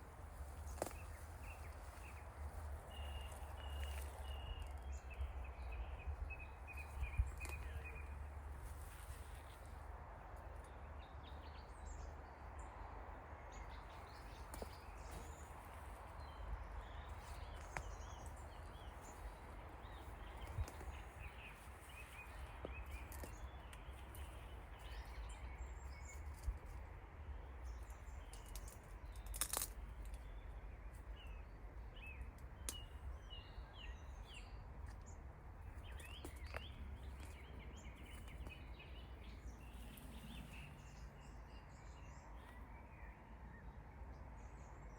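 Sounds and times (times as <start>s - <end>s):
small birds chirping: 0.0s - 43.8s.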